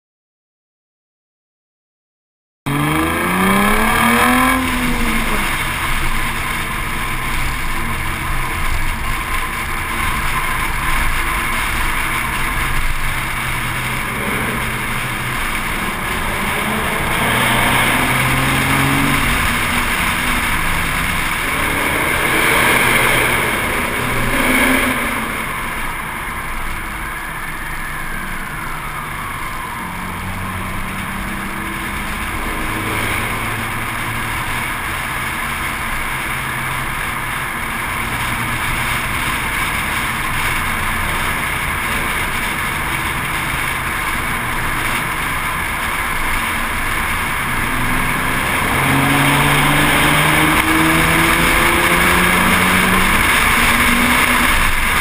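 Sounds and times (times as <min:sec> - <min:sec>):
car engine accelerating: 0:02.7 - 0:55.0.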